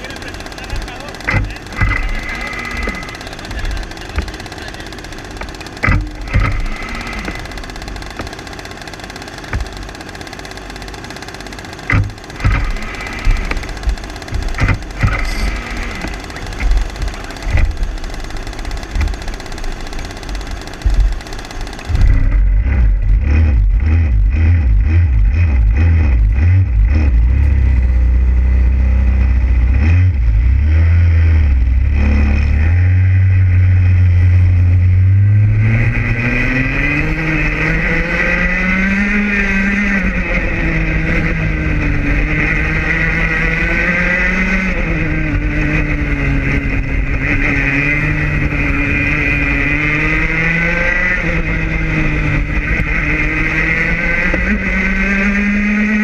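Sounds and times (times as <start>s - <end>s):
kart engine accelerating: 0.0s - 56.0s
kart engines pulsing: 0.0s - 56.0s.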